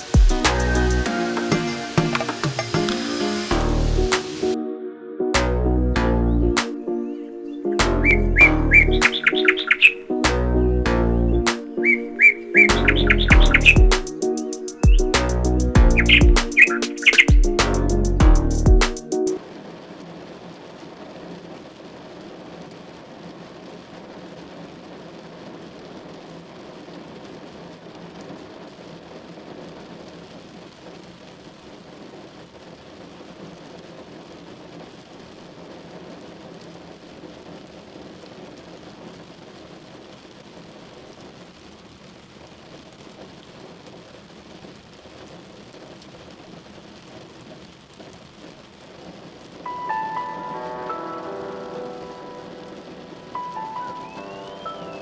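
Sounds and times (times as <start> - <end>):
steady rain falling: 0.0 - 4.7, 5.4 - 55.0.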